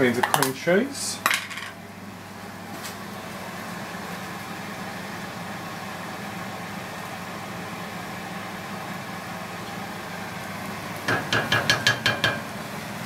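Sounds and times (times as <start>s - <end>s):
range hood fan humming: 0.0s - 13.0s.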